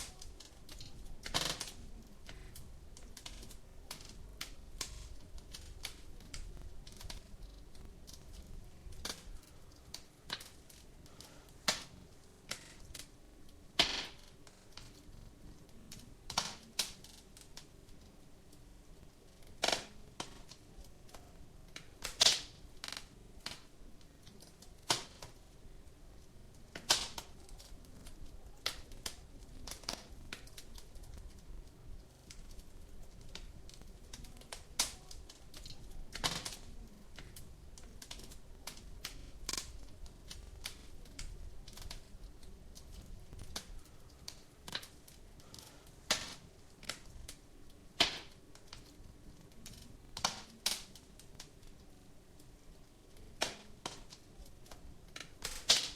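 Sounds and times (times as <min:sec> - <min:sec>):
faint low hiss: 0:00.0 - 0:55.9
wood fire crackling: 0:00.0 - 0:55.9.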